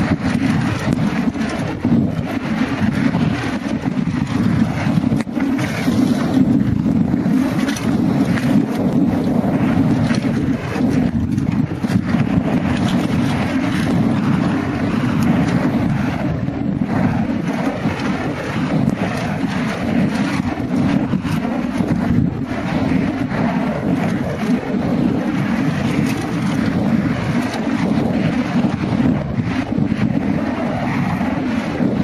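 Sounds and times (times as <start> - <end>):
bike rattling over rough trail: 0.0 - 32.0
wind buffeting microphone: 0.0 - 32.0.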